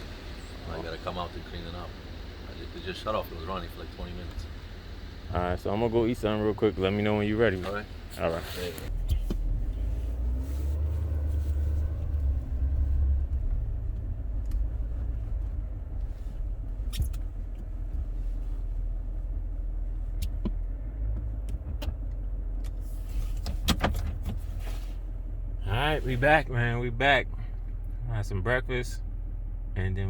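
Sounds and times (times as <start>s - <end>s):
pickup truck engine rumbling: 0.0s - 30.0s.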